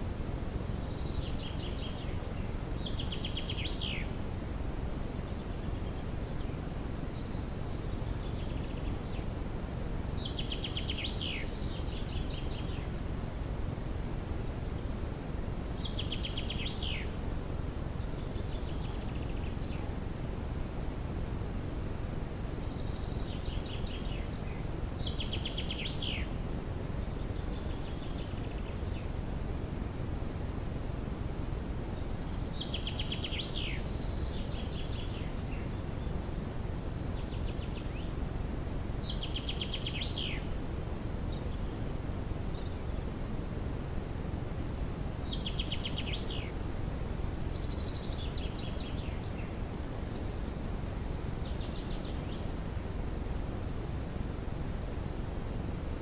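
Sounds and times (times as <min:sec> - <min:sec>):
microphone hiss: 0:00.0 - 0:56.0
songbird singing: 0:00.0 - 0:56.0.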